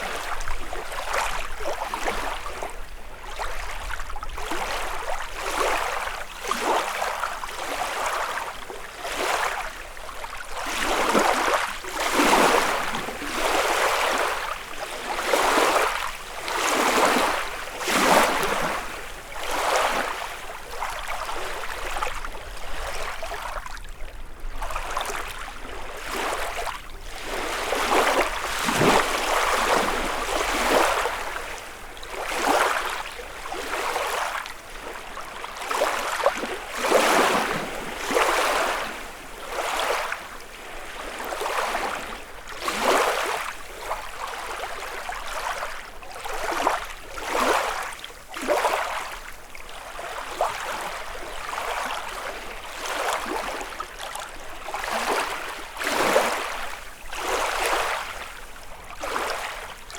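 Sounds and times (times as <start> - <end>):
waves lapping on shore: 0.0 - 59.9.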